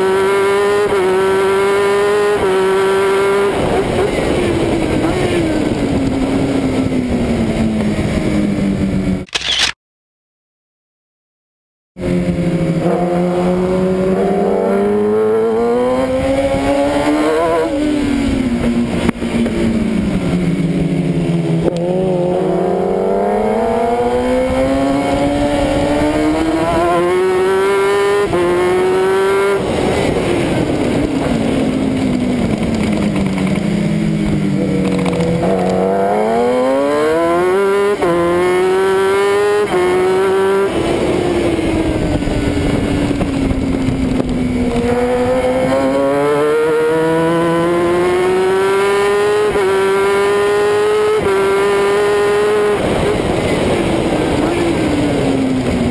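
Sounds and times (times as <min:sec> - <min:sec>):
wind noise: 0:00.0 - 0:09.6, 0:12.0 - 0:55.9
motorcycle engine revving: 0:00.0 - 0:09.7, 0:12.0 - 0:55.9.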